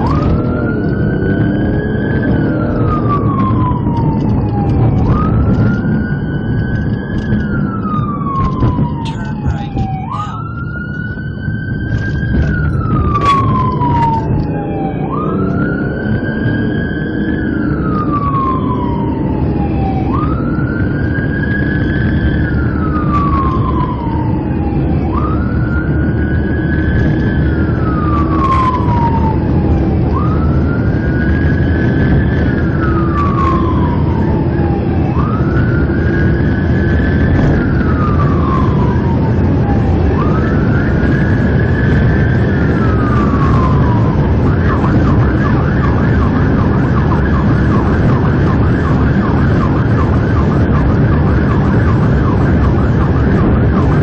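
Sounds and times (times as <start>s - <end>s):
car engine and road noise: 0.0s - 54.0s
police siren wailing: 0.0s - 54.0s.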